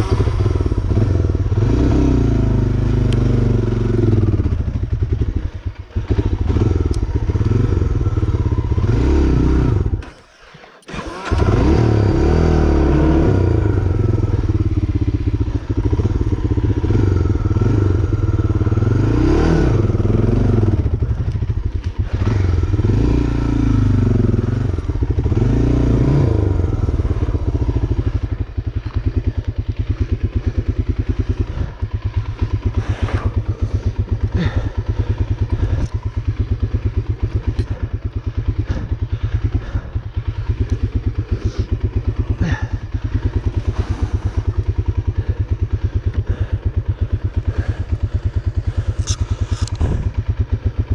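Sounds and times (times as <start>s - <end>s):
engine revving: 0.0s - 50.9s.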